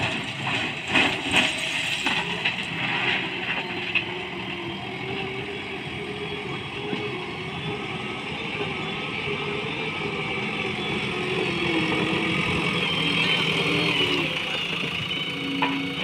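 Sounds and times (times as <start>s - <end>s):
diesel engine of loader: 0.0s - 16.0s.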